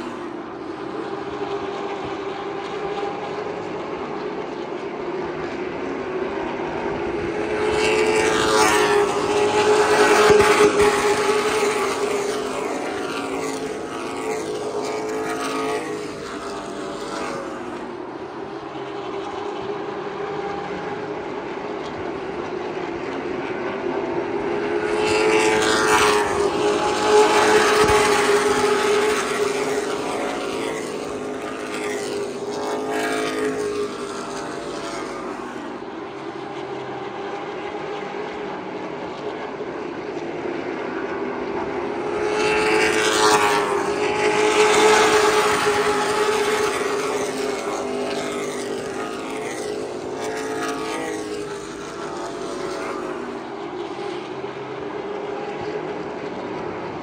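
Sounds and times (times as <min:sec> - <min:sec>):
race car engines passing: 0:00.0 - 0:57.0.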